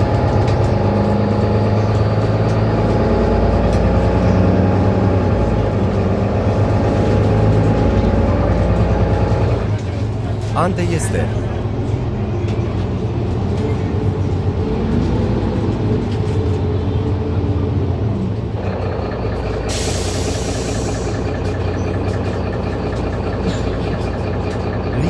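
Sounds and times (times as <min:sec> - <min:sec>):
bus engine idling: 0:00.0 - 0:25.0.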